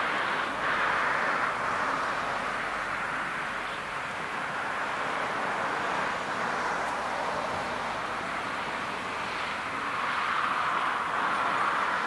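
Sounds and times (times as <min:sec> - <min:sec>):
jet engines at taxi power: 0:00.0 - 0:12.0.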